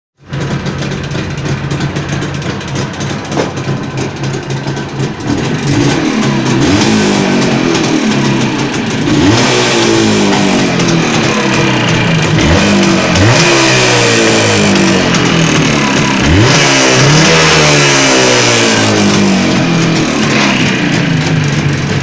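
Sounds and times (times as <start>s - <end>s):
two-stroke engine knocking: 0.2s - 22.0s.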